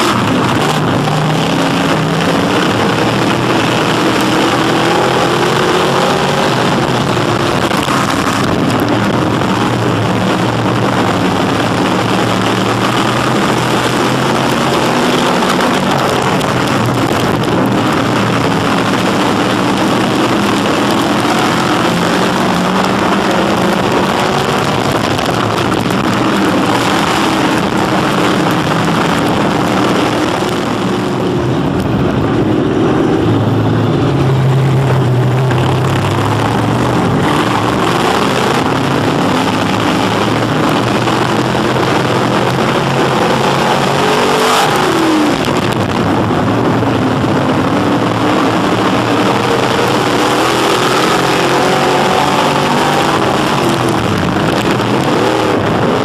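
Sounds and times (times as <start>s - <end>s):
constant rushing noise: 0.0s - 56.0s
race car engines running hard: 0.0s - 56.0s.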